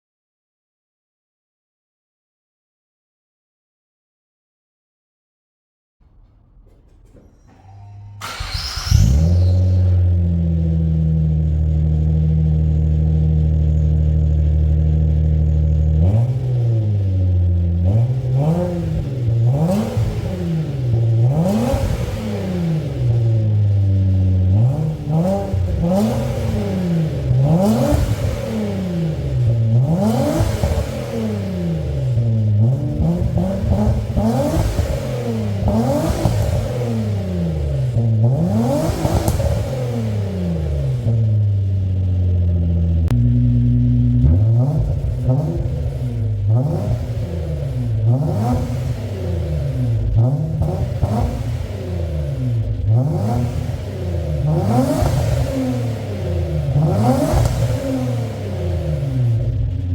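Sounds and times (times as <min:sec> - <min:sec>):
car engine idling and revving: 0:06.0 - 0:59.9.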